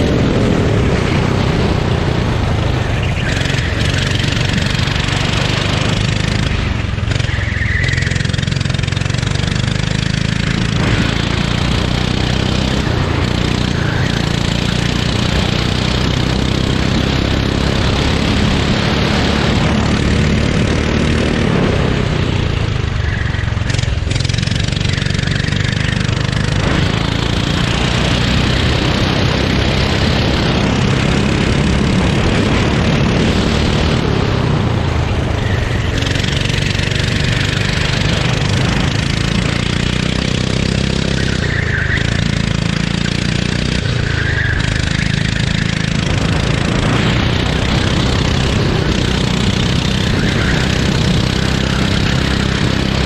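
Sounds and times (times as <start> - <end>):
kart engine running hard: 0.0 - 53.0.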